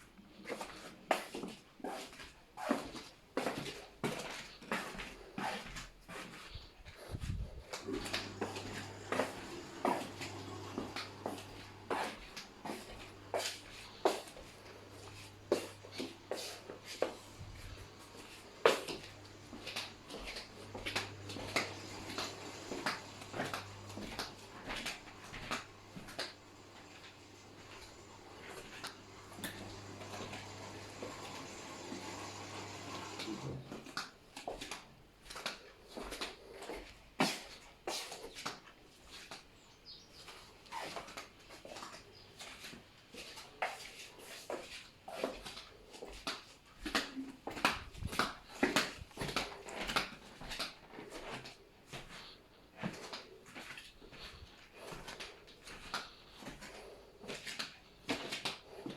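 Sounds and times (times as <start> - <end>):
flip-flop footsteps on hard floor: 0.5 - 39.4, 40.8 - 58.9.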